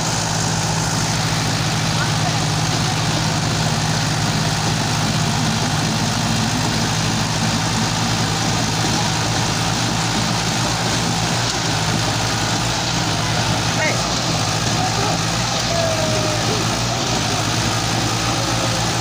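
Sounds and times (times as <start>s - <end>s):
tractor diesel engines running hard: 0.0s - 19.0s
wheels spinning in sand: 0.0s - 19.0s.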